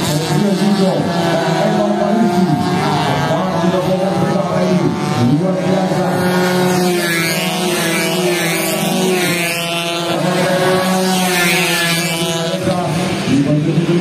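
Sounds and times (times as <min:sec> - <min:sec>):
motorcycles revving past: 0:00.0 - 0:14.0.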